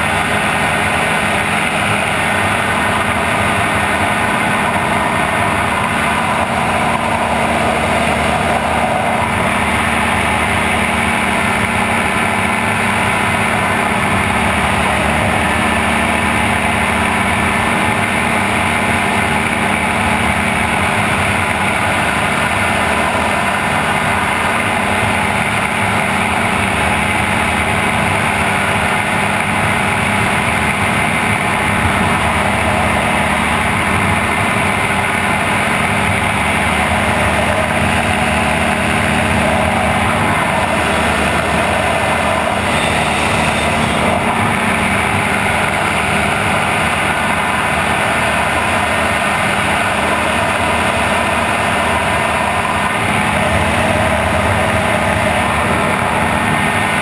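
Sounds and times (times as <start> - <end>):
aircraft engine droning: 0.0 - 57.0.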